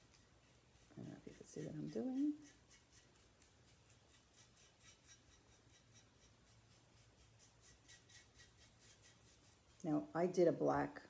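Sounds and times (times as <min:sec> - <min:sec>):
paintbrush strokes on ceramic: 0:00.0 - 0:11.0.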